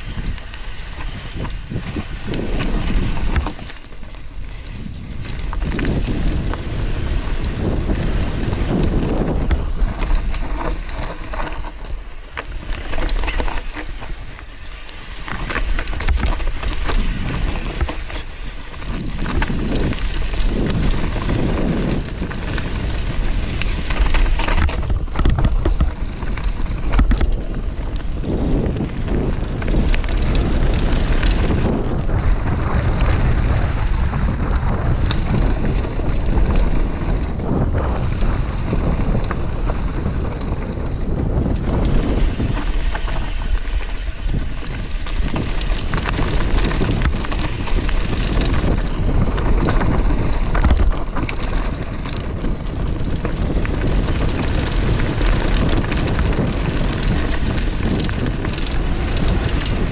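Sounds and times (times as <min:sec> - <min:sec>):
bike clattering over bumps: 0:00.0 - 0:59.9
tyres rolling over dirt: 0:00.0 - 0:59.9
wind buffeting microphone: 0:00.0 - 0:59.9.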